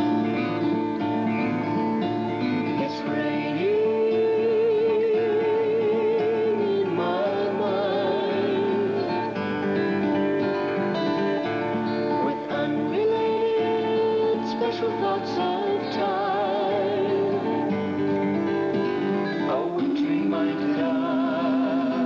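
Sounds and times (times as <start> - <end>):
acoustic guitar: 0.0 - 22.0
person singing with vibrato: 0.0 - 22.0
sung harmony: 0.0 - 22.0.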